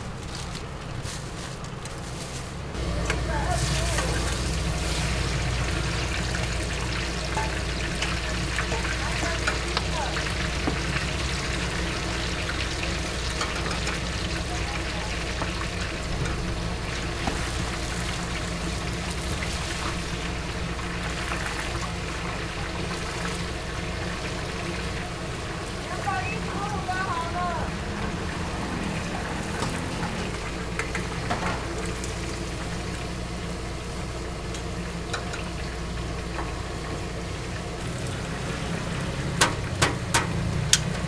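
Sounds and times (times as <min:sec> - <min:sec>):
hot oil sizzling and crackling: 0:00.0 - 0:41.0.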